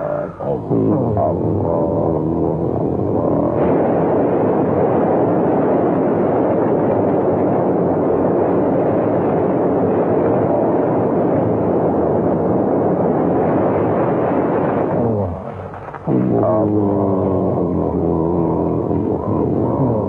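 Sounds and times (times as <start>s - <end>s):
loud steady rumbling: 0.0s - 20.0s.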